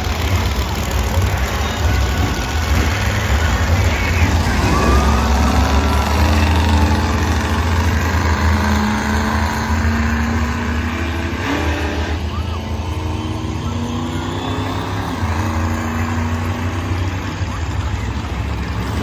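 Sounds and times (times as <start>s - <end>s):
monster truck engines rumbling: 0.0s - 19.0s.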